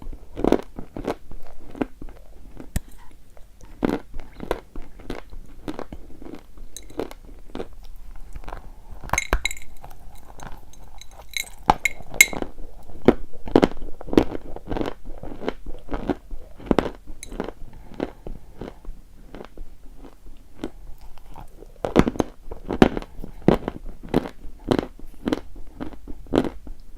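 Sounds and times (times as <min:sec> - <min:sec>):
chewing chalk crunches: 0:00.4 - 0:26.6.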